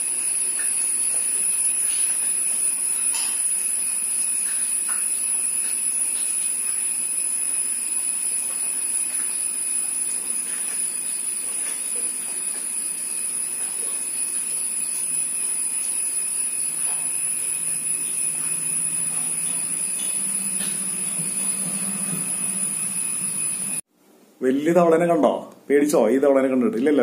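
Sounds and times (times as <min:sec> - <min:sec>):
high-pitched whine: 0:00.0 - 0:23.8.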